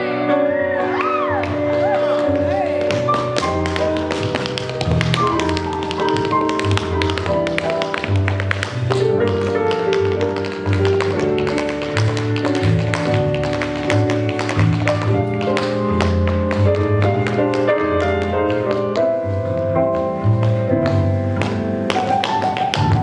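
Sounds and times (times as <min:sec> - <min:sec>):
tap shoes clicking on floor: 0:01.4 - 0:19.1, 0:19.9 - 0:23.0.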